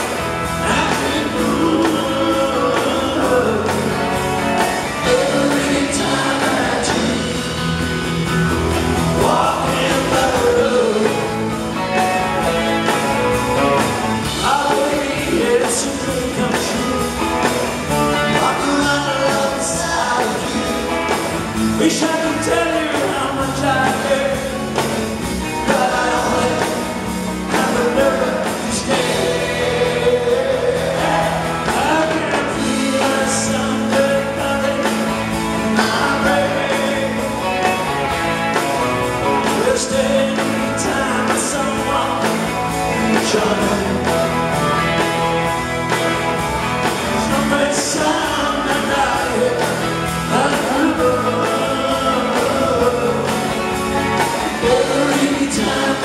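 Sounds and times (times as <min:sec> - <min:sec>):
bass guitar: 0:00.0 - 0:56.0
electric guitar: 0:00.0 - 0:56.0
man singing: 0:00.0 - 0:56.0.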